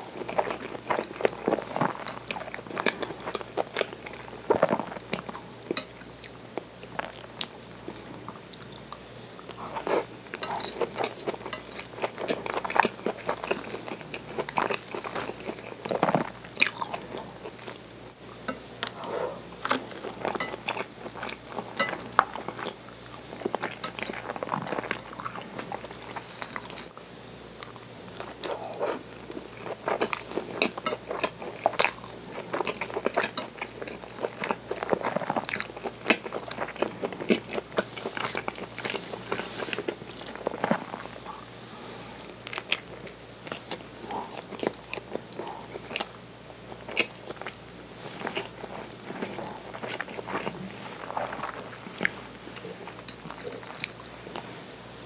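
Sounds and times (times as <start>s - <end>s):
person chewing crunchy food: 0.0s - 26.9s, 27.6s - 41.6s, 42.2s - 54.6s.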